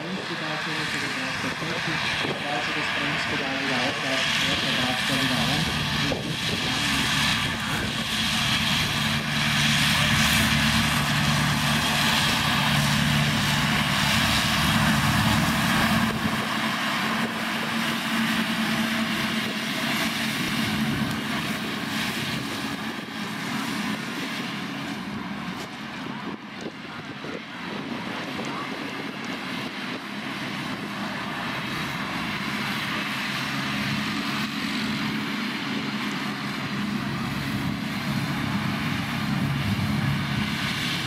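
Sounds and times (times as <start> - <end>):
tractor engine drone: 0.0 - 41.0.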